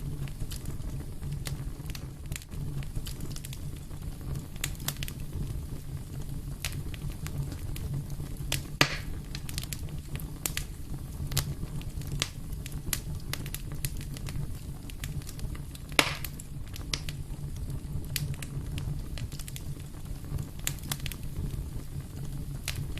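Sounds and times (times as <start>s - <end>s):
fire crackling and snapping: 0.0s - 22.9s
loud pops from fire: 0.0s - 22.9s
wood fire burning: 0.0s - 22.9s.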